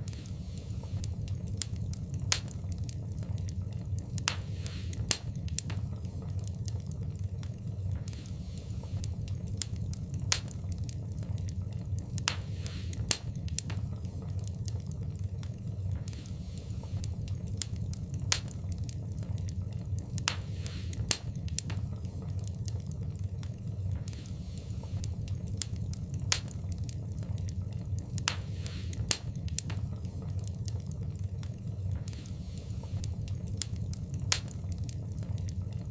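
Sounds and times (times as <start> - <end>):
low rumble of fire: 0.0 - 35.9
wood fire crackling and popping: 0.0 - 35.9.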